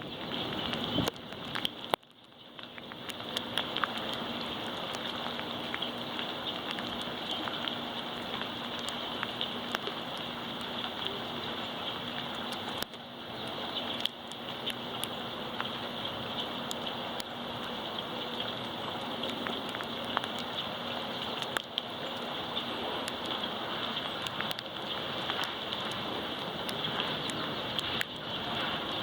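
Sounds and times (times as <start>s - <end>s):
raindrops ticking close by: 0.0s - 29.0s
steady rain falling: 0.0s - 29.0s.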